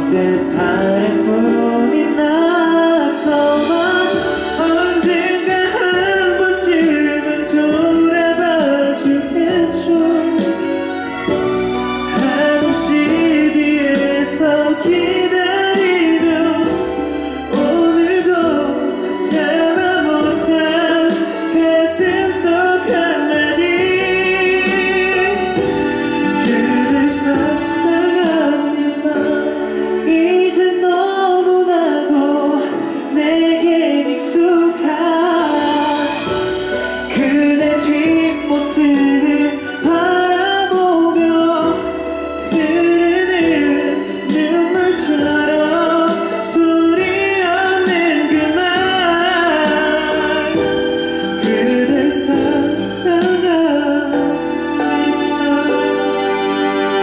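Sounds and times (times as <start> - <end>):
pop song with singing over beat: 0.0 - 57.0.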